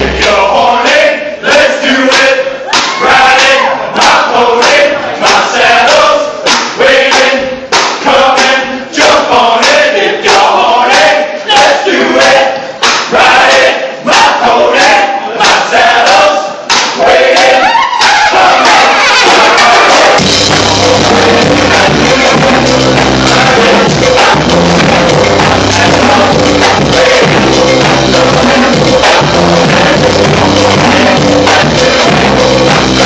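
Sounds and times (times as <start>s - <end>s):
crowd singing chant-like: 0.0s - 33.0s.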